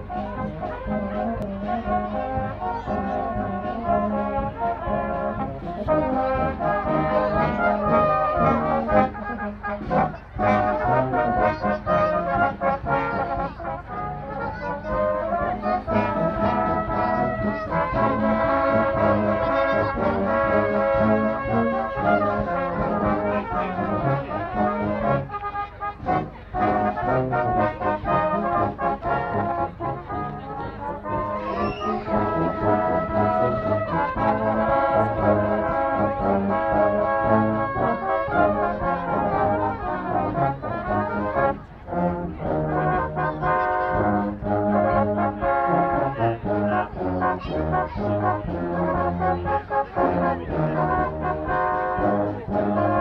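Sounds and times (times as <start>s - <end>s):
brass band playing: 0.0s - 53.0s.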